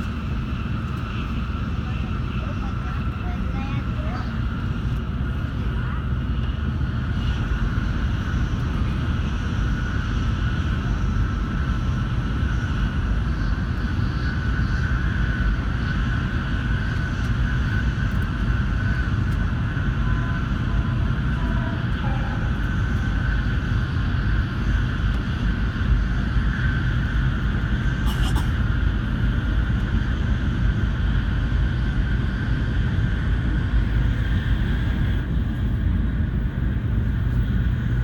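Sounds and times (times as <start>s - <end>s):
train rumbling at speed: 0.0s - 38.0s.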